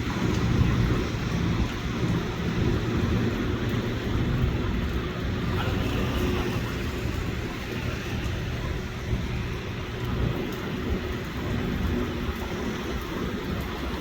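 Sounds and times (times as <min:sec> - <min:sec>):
traffic on a wet road: 0:00.0 - 0:14.0.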